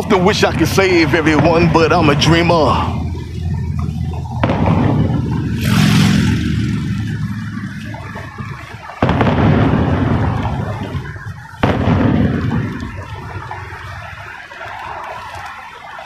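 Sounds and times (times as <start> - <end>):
fireworks booming: 0.0 - 15.1
fireworks sharp bangs: 0.7 - 14.4.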